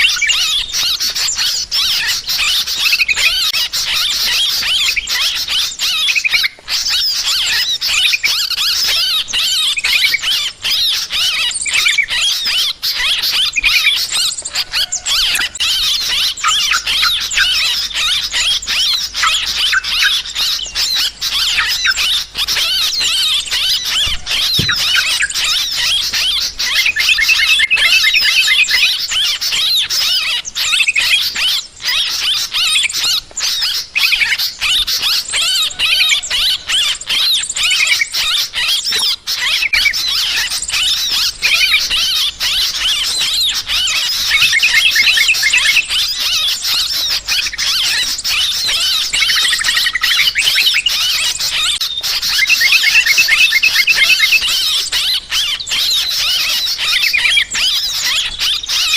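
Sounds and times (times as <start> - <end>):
birds chattering harshly: 0.0 - 58.9.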